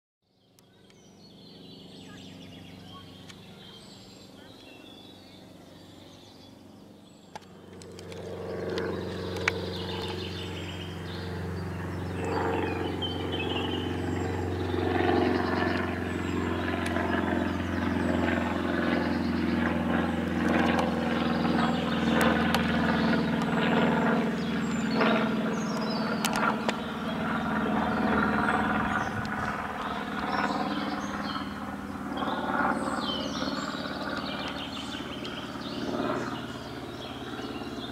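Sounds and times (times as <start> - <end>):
propeller plane engine hum: 0.2 - 37.9
small birds chirping: 0.3 - 37.9.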